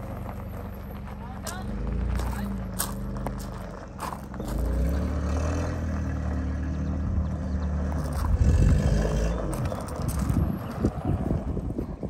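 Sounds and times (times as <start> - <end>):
footsteps on gravel: 0.0 - 5.6, 7.7 - 12.0.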